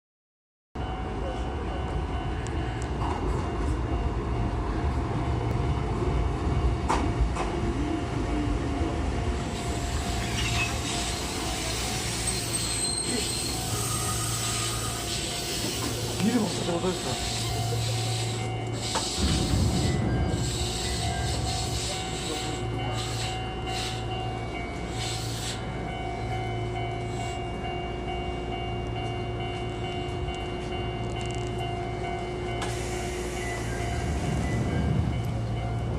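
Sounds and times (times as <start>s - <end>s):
electric train rumble: 0.8s - 35.9s.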